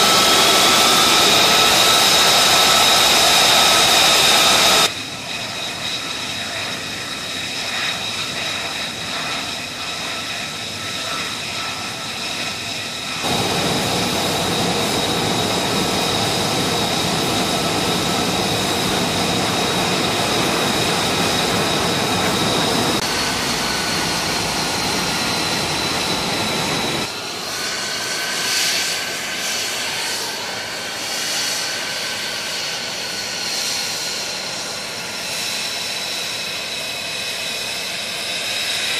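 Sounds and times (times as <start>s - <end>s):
jet turbine whine: 0.0s - 38.9s.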